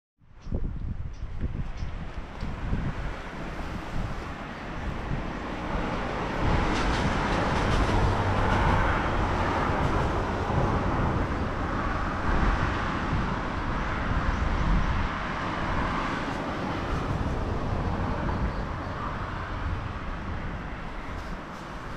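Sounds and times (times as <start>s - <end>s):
outdoor rumble with rushing hiss: 0.3s - 21.9s.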